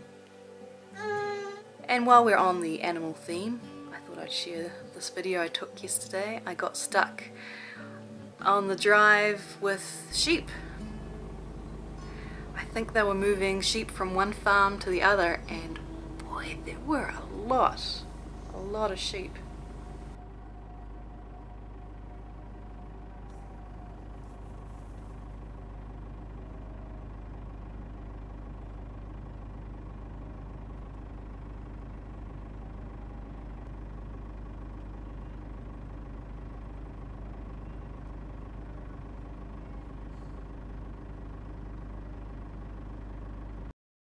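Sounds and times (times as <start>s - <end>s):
vehicle engine running: 1.9s - 43.7s.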